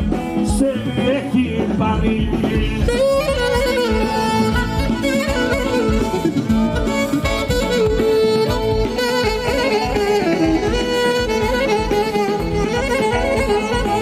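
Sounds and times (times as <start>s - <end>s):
live folk band instrumental: 0.0s - 14.0s.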